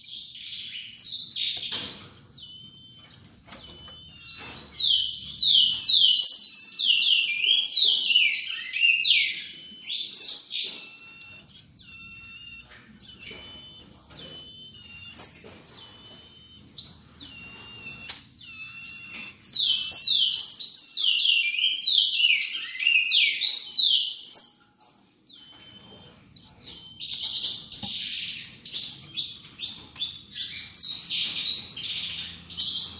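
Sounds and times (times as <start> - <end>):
songbirds chirping: 0.0 - 32.9.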